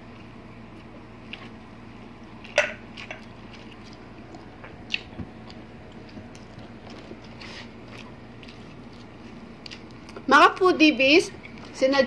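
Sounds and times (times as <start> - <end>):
close-miked chewing: 0.0 - 10.6.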